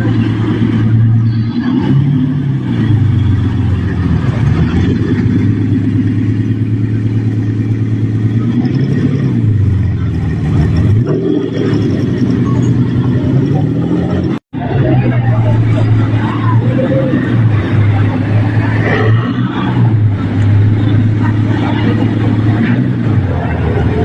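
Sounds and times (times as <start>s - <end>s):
car engine running loud: 0.0s - 24.0s.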